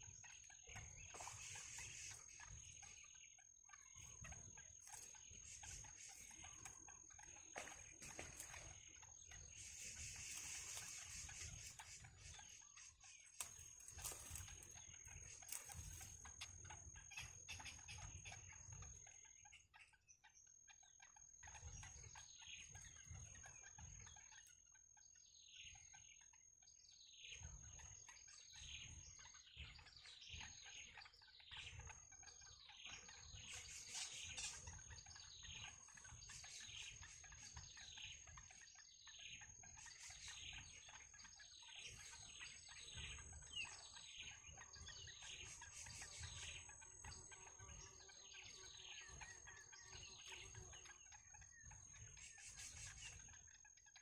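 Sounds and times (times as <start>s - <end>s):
bird chicks begging chirps: 0.0s - 54.0s.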